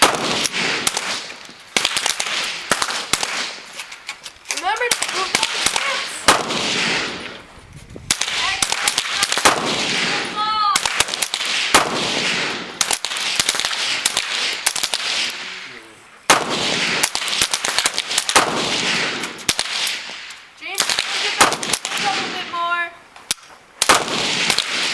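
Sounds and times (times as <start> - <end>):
echoing rifle shots: 0.0 - 3.9, 4.6 - 7.4, 8.1 - 22.9, 23.8 - 24.9.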